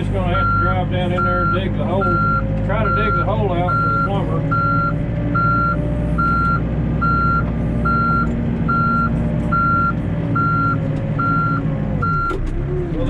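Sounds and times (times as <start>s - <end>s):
diesel engine droning: 0.0s - 13.0s
reverse alarm beeping: 0.4s - 12.4s.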